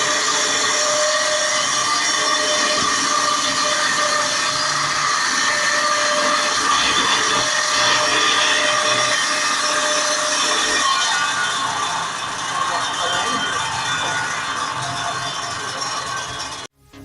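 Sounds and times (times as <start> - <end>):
sawmill saw whining: 0.0 - 16.7.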